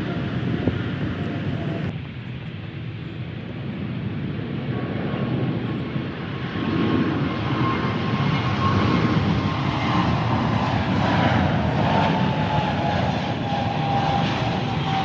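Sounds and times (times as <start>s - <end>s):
jet airliner engines whining: 0.0s - 15.0s.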